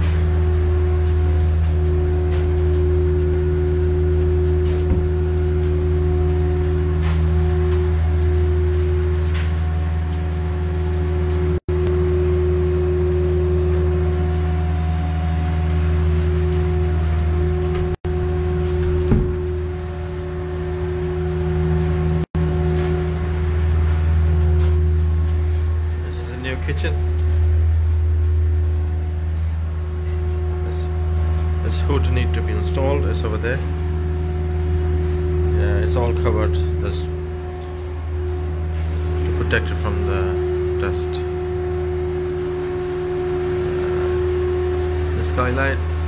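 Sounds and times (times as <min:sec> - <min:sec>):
loud steady low hum: 0:00.0 - 0:46.0.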